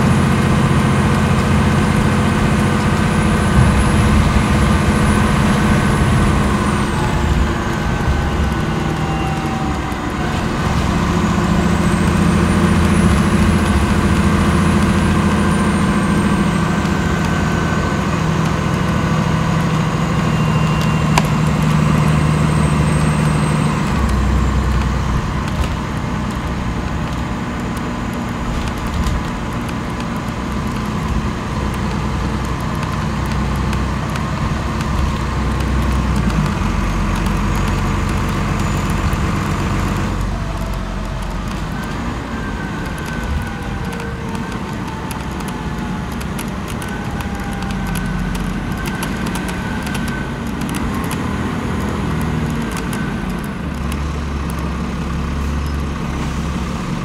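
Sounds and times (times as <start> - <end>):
diesel bus engine drone: 0.0 - 57.0.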